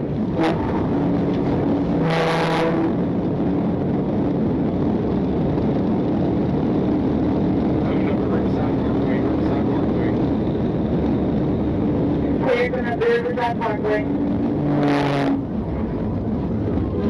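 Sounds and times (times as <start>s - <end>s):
car driving at high speed: 0.0s - 17.0s.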